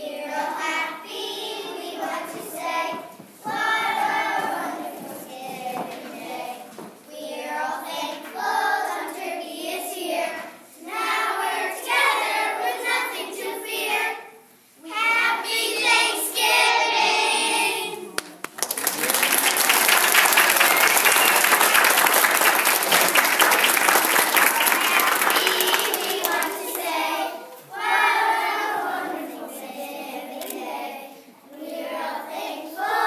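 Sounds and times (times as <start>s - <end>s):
children singing together: 0.0s - 18.2s, 20.6s - 33.0s.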